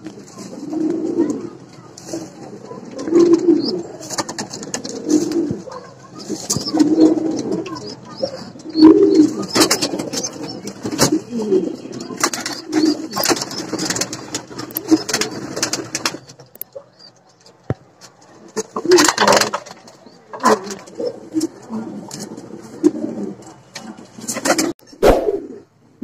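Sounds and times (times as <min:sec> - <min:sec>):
pigeon cooing: 0:00.3 - 0:16.0, 0:18.4 - 0:25.7
wings flapping and scuffling: 0:02.0 - 0:23.0, 0:23.8 - 0:24.7.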